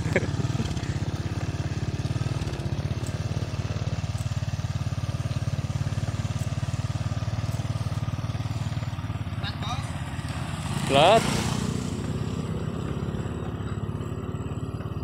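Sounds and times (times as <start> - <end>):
small motorcycle engine idling: 0.0 - 15.0.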